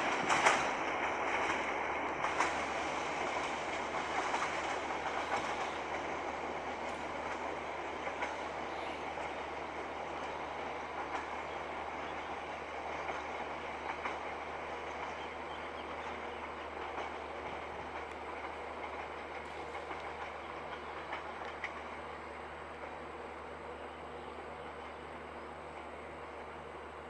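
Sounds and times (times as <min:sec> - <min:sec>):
train rolling over rails: 0:00.0 - 0:27.0
train wheels clacking: 0:00.0 - 0:27.0.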